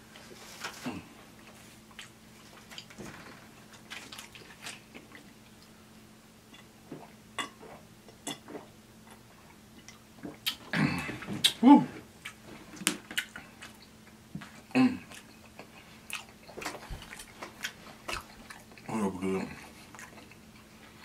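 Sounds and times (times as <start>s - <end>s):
low steady hum: 0.0s - 21.0s
faint chewing sounds: 0.1s - 11.6s, 12.2s - 21.0s.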